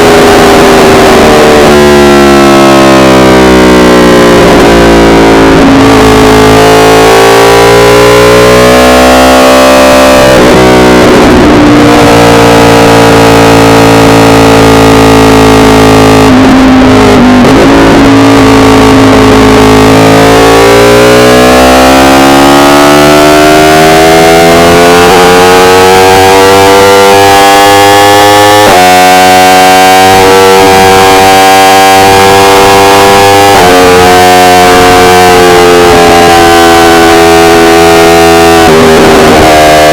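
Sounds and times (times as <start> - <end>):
sportbike engine revving: 0.0 - 39.9.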